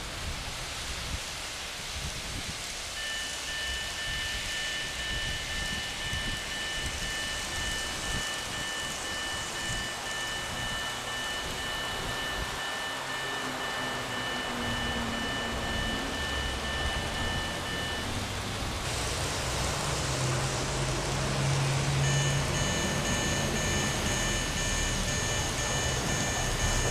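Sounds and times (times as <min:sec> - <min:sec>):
steady rushing noise: 0:00.0 - 0:26.9
electronic crossing signal tone: 0:03.0 - 0:26.9
low hum: 0:03.0 - 0:26.9.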